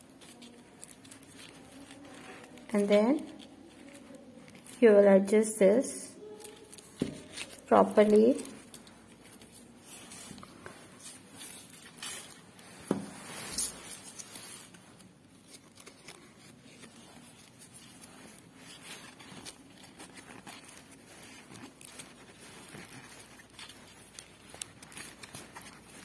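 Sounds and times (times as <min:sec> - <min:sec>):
paper and tape crackling: 0:00.0 - 0:26.0.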